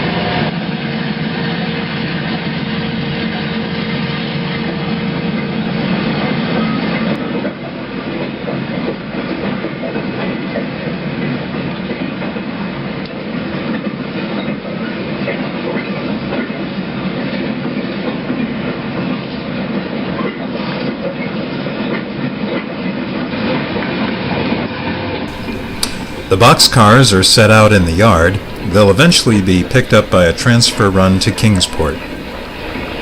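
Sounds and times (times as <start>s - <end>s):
model diesel locomotive running: 0.0s - 23.6s, 25.3s - 33.0s.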